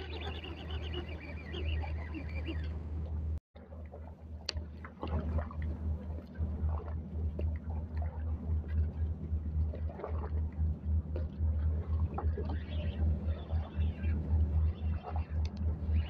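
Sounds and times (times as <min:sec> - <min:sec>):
steady low rumble: 0:00.0 - 0:16.0
water sloshing against pilings: 0:00.0 - 0:16.0.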